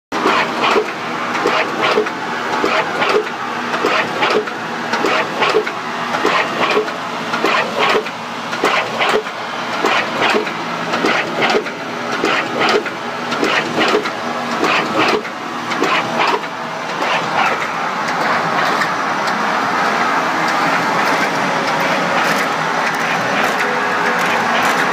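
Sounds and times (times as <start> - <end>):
industrial machine running: 0.1 - 24.9.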